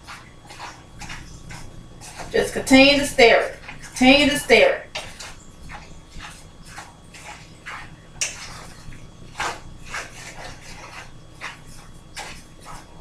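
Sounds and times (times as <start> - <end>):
low steady hum: 0.0 - 13.0
utensil scraping skillet: 0.0 - 13.0.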